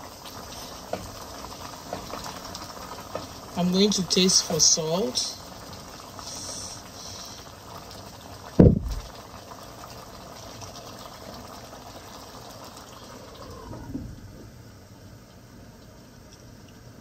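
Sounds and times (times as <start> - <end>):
soup bubbling in a pot: 0.0 - 17.0.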